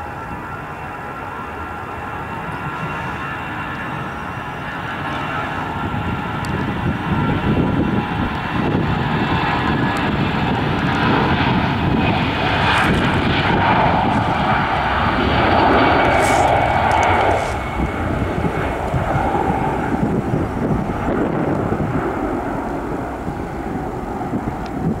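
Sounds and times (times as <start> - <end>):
jet engines at take-off: 0.0 - 25.0.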